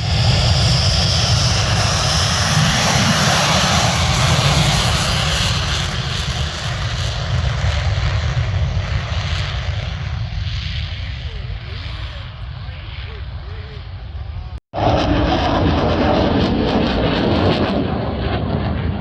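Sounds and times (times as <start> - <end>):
aircraft engine passing: 0.0 - 19.0.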